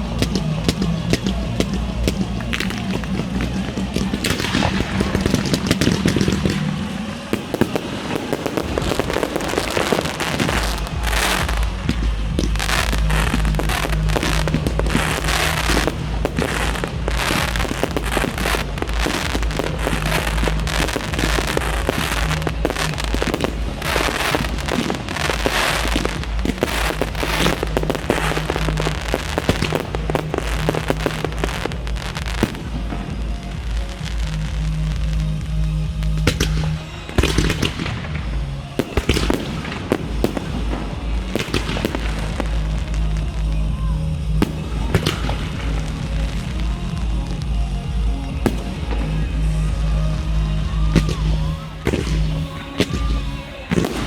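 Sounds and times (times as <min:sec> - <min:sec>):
fireworks bursting and crackling: 0:00.0 - 0:54.0
loud pop music: 0:00.0 - 0:54.0.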